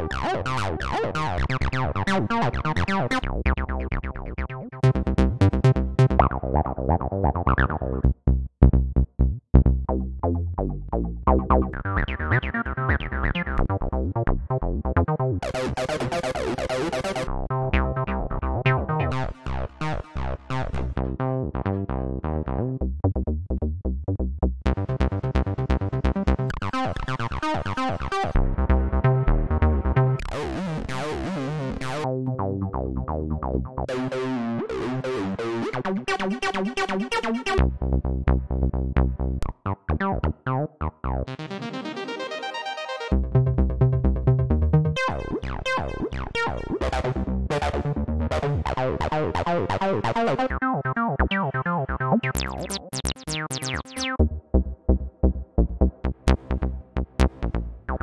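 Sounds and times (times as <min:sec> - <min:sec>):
synthesizer bass notes: 0:00.0 - 0:42.4, 0:43.1 - 0:58.0.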